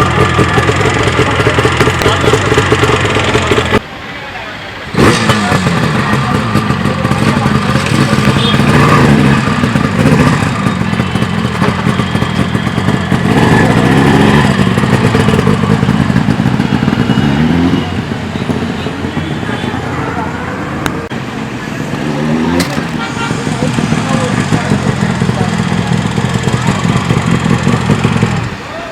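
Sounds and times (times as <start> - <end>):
two-stroke motorcycle engine revving: 0.0 - 3.8, 4.9 - 28.7.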